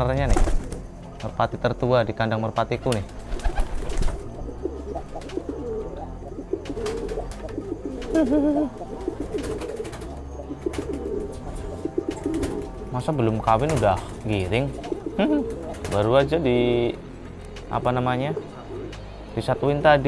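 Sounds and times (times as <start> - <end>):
pigeons cooing: 3.0 - 19.8.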